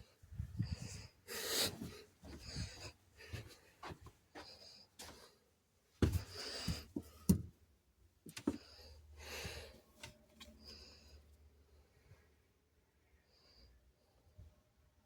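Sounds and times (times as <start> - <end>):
soft breaths: 0.0 - 7.3, 8.4 - 14.6.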